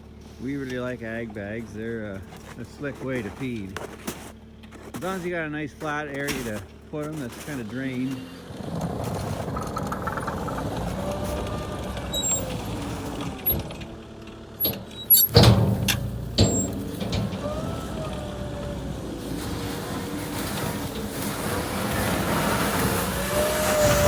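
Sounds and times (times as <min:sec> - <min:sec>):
loader engine running: 0:00.0 - 0:24.0.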